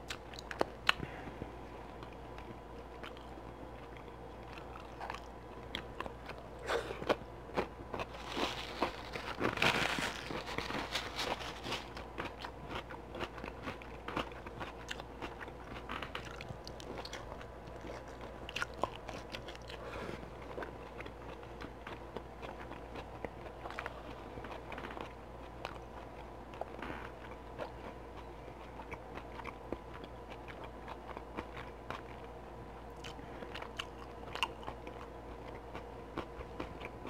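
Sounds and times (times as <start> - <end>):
wet chewing and biting: 0.0 - 37.0.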